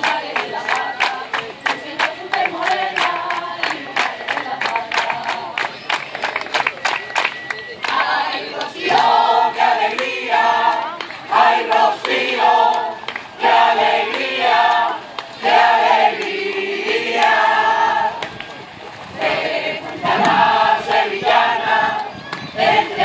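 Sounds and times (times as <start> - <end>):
crowd singing in unison: 0.0 - 6.0, 7.6 - 23.0.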